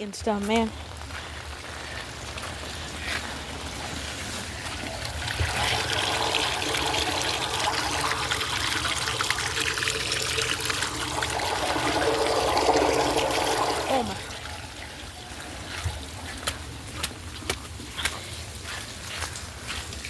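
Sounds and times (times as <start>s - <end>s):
rainwater trickling on pavement: 0.0s - 20.0s.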